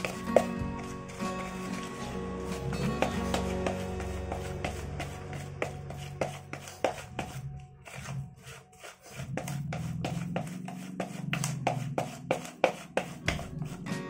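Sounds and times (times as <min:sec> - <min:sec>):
background music: 0:00.0 - 0:14.0
spatula scraping plastic bowl: 0:00.0 - 0:14.0.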